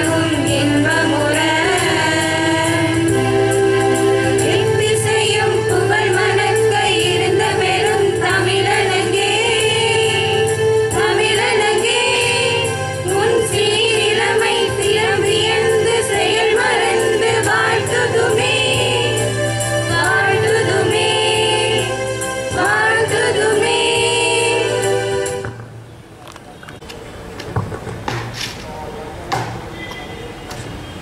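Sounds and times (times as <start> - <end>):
women singing over loudspeakers: 0.0 - 25.6.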